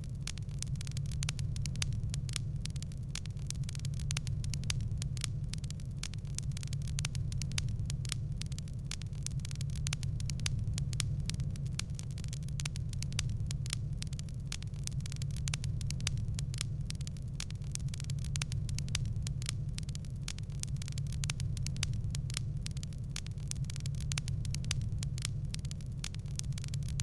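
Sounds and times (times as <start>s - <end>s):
low rumble of flames: 0.0s - 27.0s
wood fire crackling: 0.0s - 27.0s.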